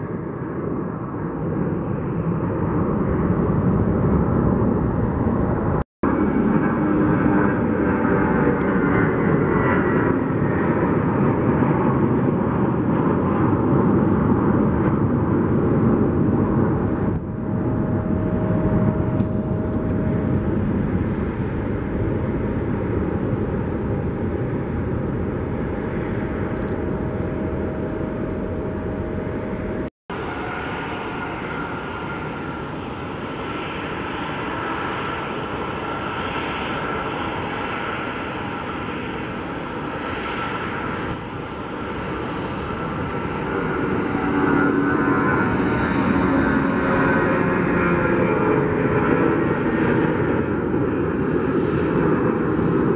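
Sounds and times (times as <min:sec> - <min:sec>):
jet engines roaring with whine: 0:00.0 - 0:52.9.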